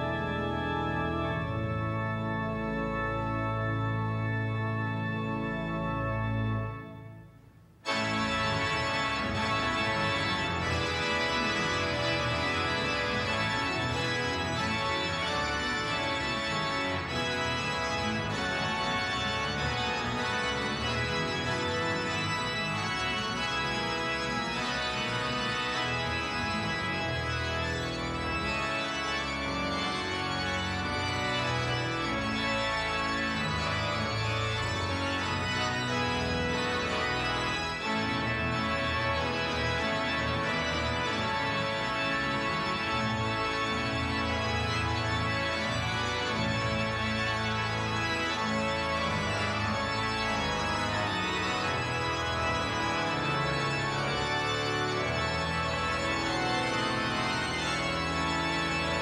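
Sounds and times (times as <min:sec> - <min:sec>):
music: 0:00.0 - 0:59.0
pipe organ playing chords: 0:00.0 - 0:59.0.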